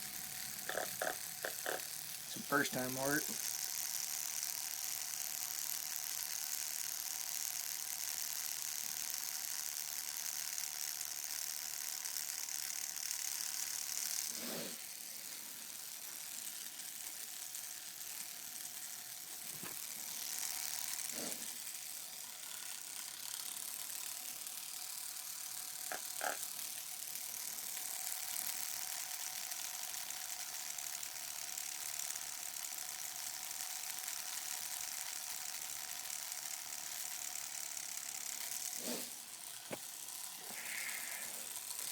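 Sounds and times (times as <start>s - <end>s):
tattoo machine buzzing: 0.0s - 41.9s.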